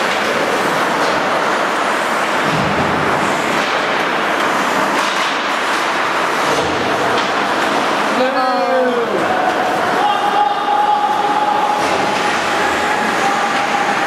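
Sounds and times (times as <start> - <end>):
ice rink ambient noise: 0.0 - 14.0.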